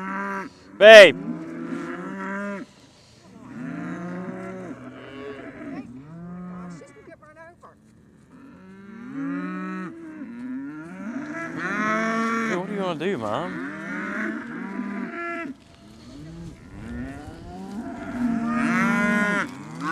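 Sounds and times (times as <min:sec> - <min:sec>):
cows and calves mooing: 0:00.0 - 0:02.7, 0:03.4 - 0:07.1, 0:08.2 - 0:19.9.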